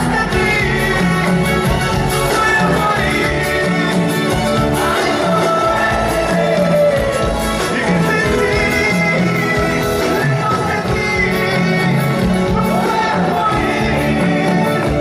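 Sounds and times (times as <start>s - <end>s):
live band playing pop-rock: 0.0s - 15.0s
person singing: 0.0s - 15.0s.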